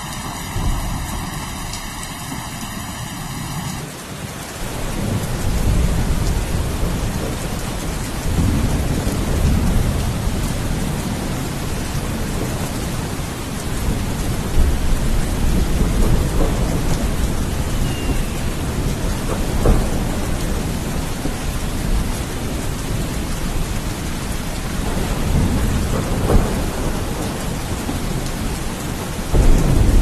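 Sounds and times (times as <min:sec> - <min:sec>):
rolling thunder: 0:00.0 - 0:03.8, 0:04.7 - 0:30.0
heavy rain: 0:00.0 - 0:30.0.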